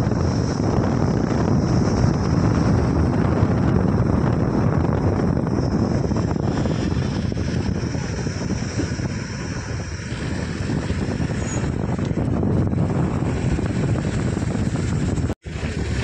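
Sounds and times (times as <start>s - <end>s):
car driving road noise: 0.0s - 16.0s
wind rushing over microphone: 0.0s - 16.0s.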